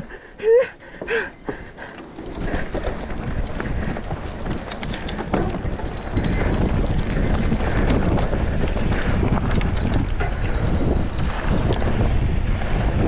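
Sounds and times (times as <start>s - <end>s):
wind rumble on microphone: 1.0s - 13.0s
bike tyres clattering over ground: 2.1s - 13.0s.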